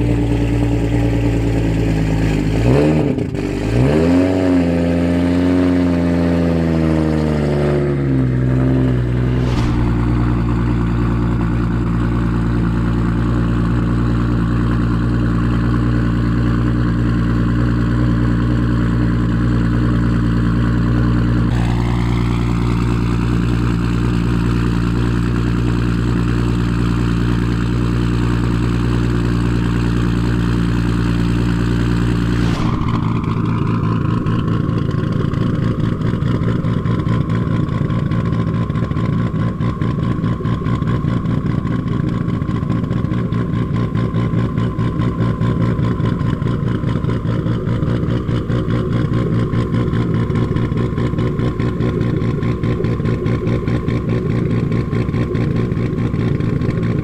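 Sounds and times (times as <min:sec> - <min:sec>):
car engine idling: 0:08.3 - 0:57.0.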